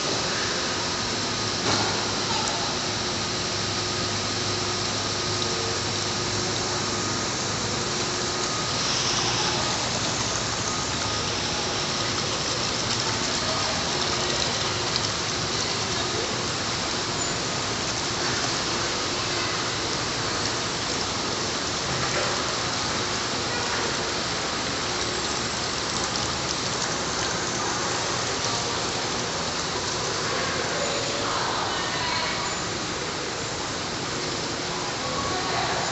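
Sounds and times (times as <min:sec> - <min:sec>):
water rushing and splashing: 0:00.0 - 0:35.9.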